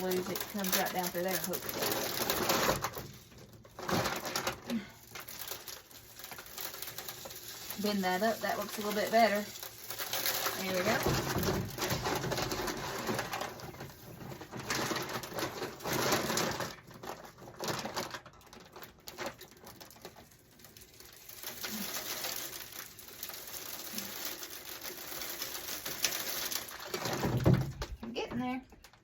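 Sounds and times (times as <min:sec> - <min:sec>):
bird seed pouring: 0:00.0 - 0:04.4, 0:05.0 - 0:27.6.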